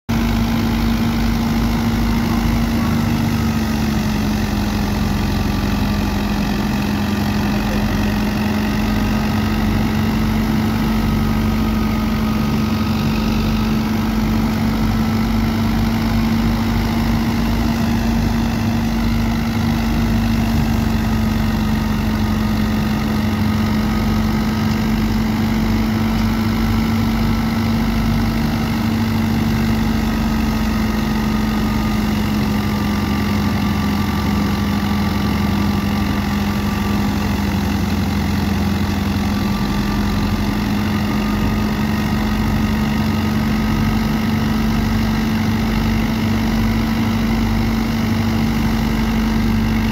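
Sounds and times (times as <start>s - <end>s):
tractor engine and thresher drone: 0.1s - 49.9s.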